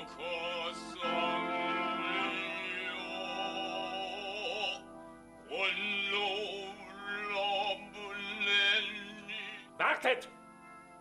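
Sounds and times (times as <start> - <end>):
steady sustained tones: 0.0 - 11.0.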